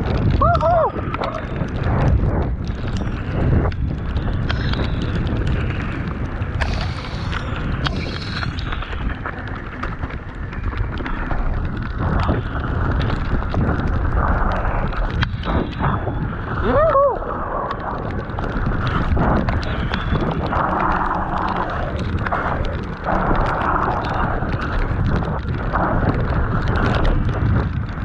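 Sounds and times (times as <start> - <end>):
bike clicking and rattling: 0.0 - 28.0
bike tyre rumble: 0.0 - 28.0
wind buffeting microphone: 0.0 - 28.0.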